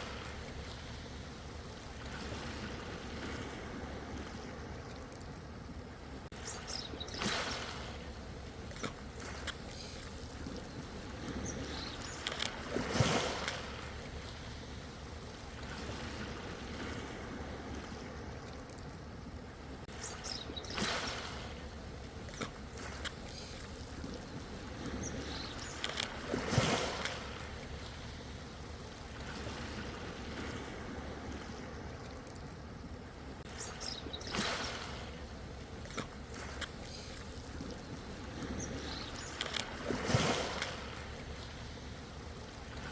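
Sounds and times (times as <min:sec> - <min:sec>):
ocean waves washing in: 0:00.0 - 0:42.9.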